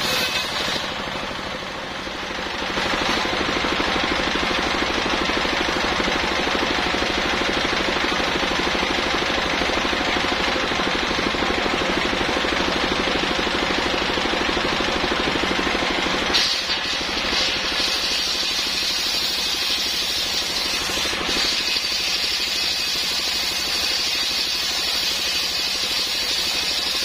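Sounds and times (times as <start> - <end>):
circular saw cutting wood: 0.0 - 27.0.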